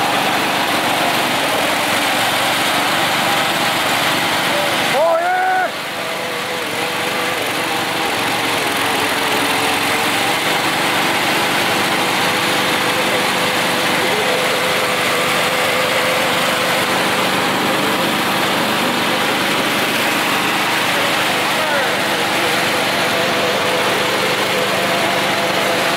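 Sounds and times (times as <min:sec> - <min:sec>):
lawn mower engine running: 0:00.0 - 0:25.9.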